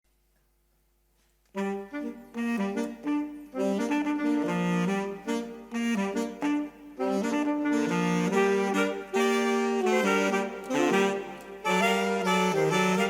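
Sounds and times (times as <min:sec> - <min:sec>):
saxophone trio playing: 0:01.5 - 0:13.0.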